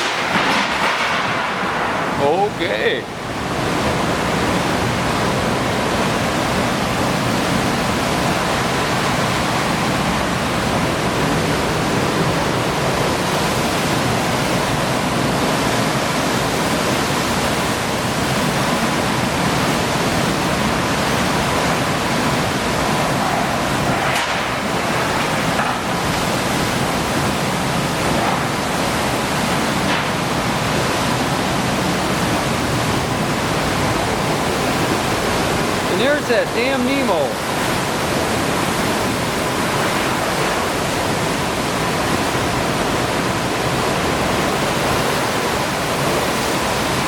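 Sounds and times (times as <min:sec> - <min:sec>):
wind and driving rain: 0:00.0 - 0:47.0.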